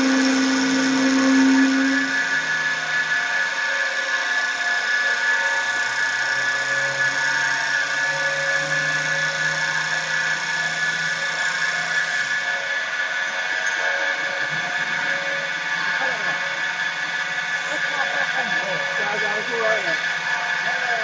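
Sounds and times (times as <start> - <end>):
machine low hum: 0.0 - 21.0
wood milling machine whine: 0.0 - 21.0.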